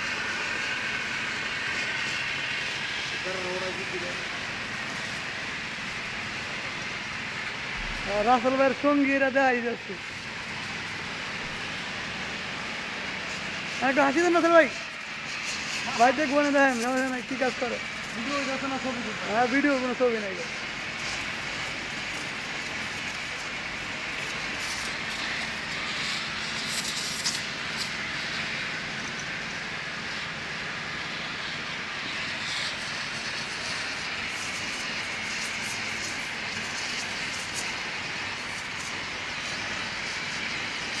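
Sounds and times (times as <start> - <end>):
gas torch hissing: 0.0 - 41.0.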